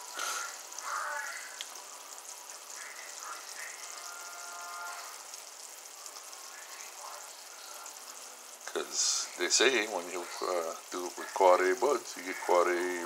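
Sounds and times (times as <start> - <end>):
syrup boiling in saucepan: 0.0 - 13.0.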